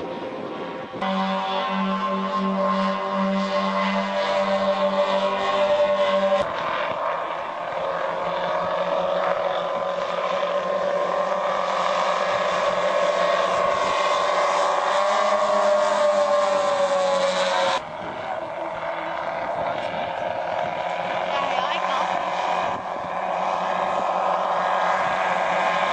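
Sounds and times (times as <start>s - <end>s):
engine drone: 0.0s - 25.9s
model airplane engines flying past: 0.0s - 25.9s.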